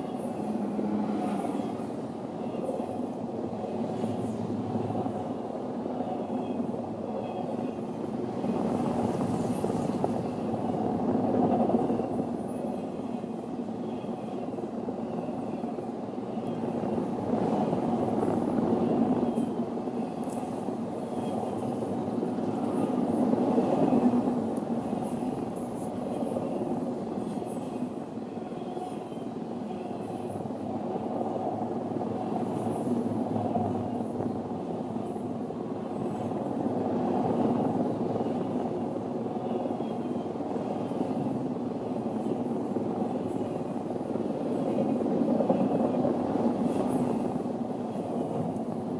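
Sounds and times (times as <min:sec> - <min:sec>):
freight train wheels on rails: 0:00.0 - 0:48.9.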